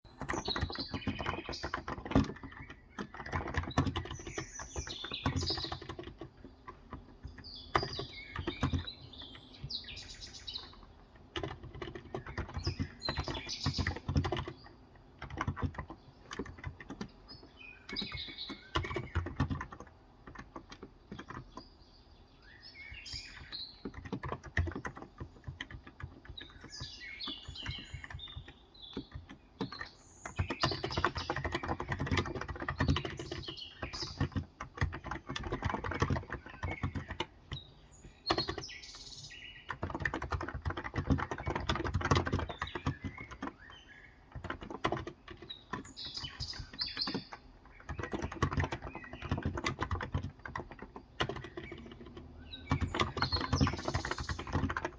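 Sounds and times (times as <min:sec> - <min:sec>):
birds chirping: 0:00.0 - 0:54.9
keyboard typing: 0:00.1 - 0:21.7, 0:22.9 - 0:54.9.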